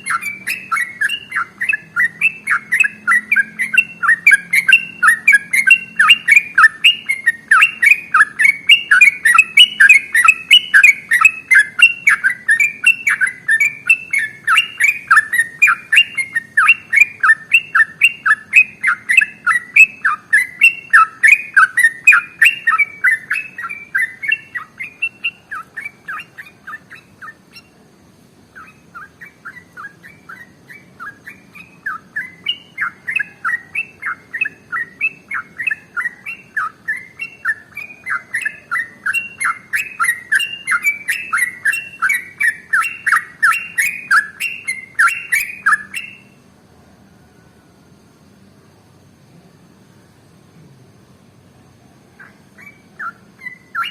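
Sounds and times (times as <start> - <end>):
bird singing rapid chirps: 0.0 - 46.6, 48.0 - 53.9.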